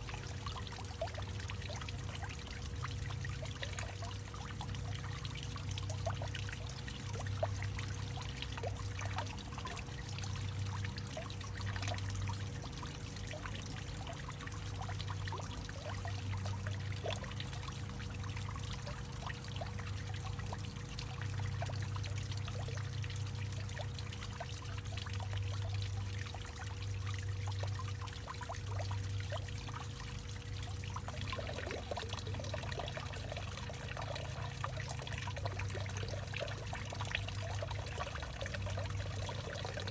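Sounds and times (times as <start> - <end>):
water dripping: 0.0 - 39.9
water trickling: 0.0 - 39.9.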